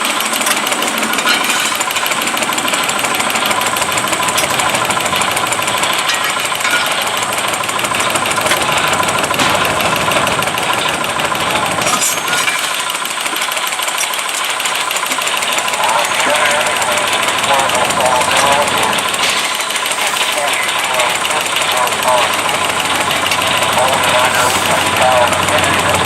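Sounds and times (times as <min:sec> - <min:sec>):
steam engine running sawmill: 0:00.0 - 0:26.0.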